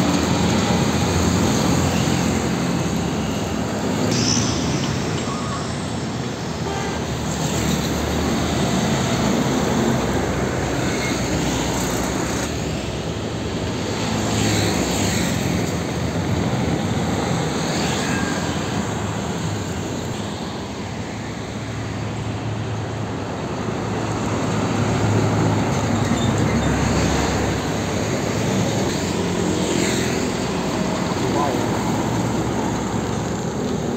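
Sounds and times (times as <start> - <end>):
diesel trucks passing: 0.0 - 33.9.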